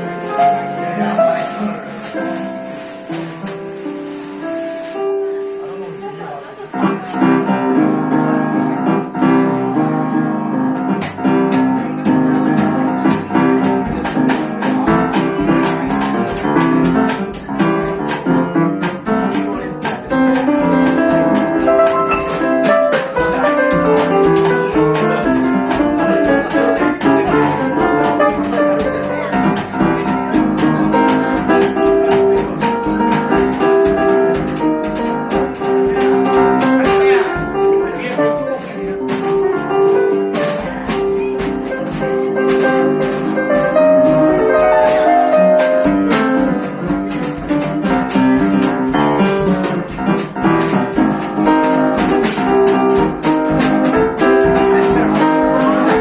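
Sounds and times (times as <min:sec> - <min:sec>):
live jazz band playing: 0:00.0 - 0:56.0.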